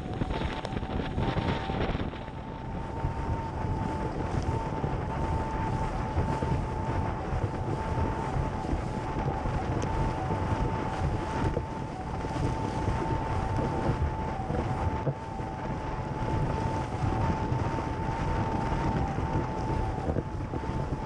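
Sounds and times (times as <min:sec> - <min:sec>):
steady high-pitched whine: 0:00.0 - 0:21.0
wind buffeting microphone: 0:00.0 - 0:21.0.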